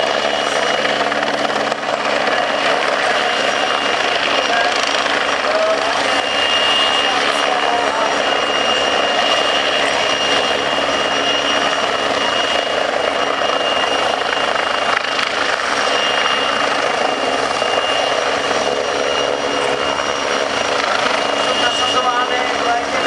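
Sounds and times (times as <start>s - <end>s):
helicopter rotor and engine noise: 0.0s - 23.0s
high turbine whine: 0.0s - 23.0s.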